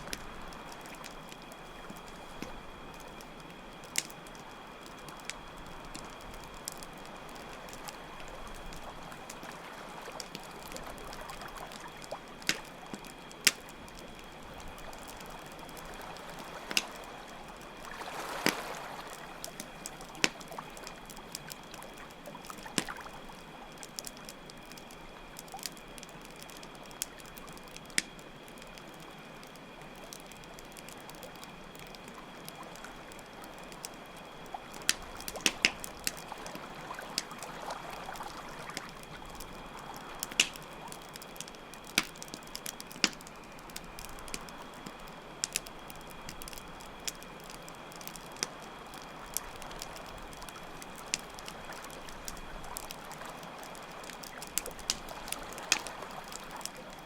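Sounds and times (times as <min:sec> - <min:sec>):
campfire crackling and popping: 0:00.0 - 0:57.0
crickets chirring: 0:00.0 - 0:57.0
water trickling and lapping: 0:00.0 - 0:57.0.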